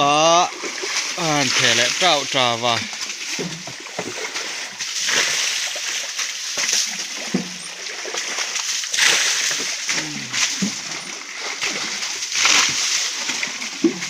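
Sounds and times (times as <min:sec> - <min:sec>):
stream water splashing over rocks: 0:00.0 - 0:14.0.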